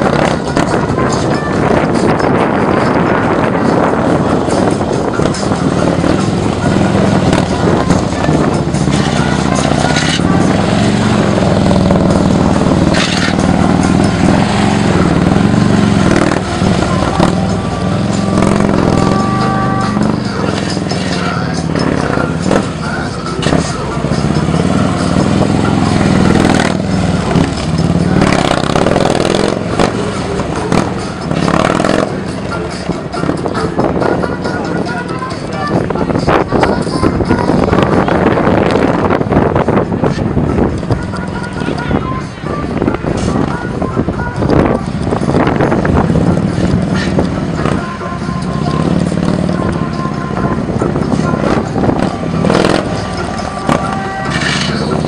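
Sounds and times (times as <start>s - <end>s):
motorcycle engine revving: 0.0s - 1.7s, 2.6s - 35.4s, 44.5s - 55.0s.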